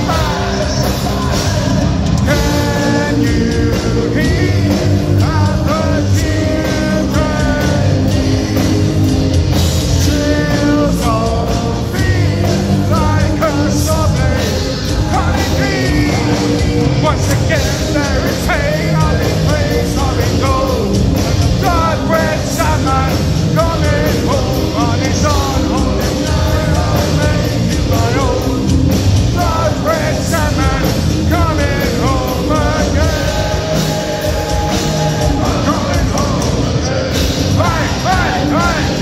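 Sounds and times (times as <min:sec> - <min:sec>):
lead vocal singing: 0:00.0 - 0:39.0
live hard rock band: 0:00.0 - 0:39.0.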